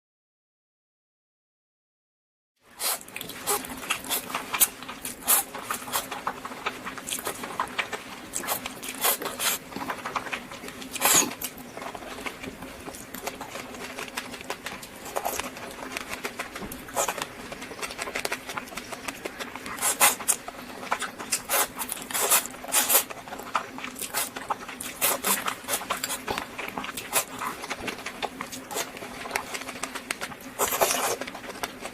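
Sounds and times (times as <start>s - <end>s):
faint steady hum: 2.6s - 31.9s
chewing and crunching: 2.8s - 31.9s.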